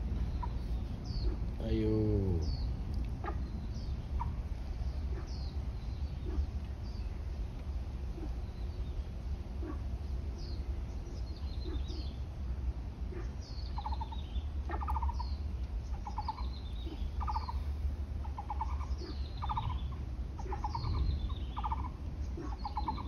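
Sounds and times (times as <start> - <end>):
low rattling bird call: 0.0 - 23.0
steady low rumble: 0.0 - 23.0.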